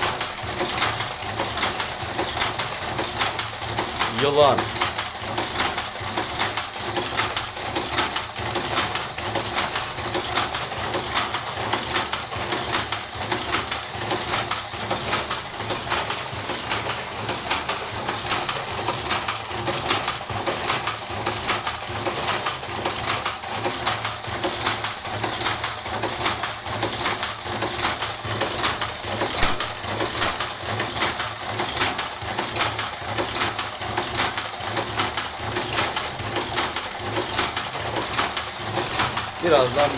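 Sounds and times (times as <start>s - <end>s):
cigarette rolling machine rattling: 0.0s - 39.9s.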